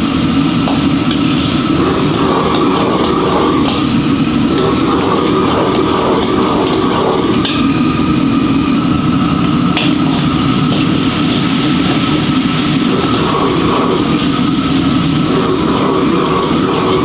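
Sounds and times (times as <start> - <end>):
machine-like drone: 0.0 - 17.0
thin steady whine: 0.0 - 17.0.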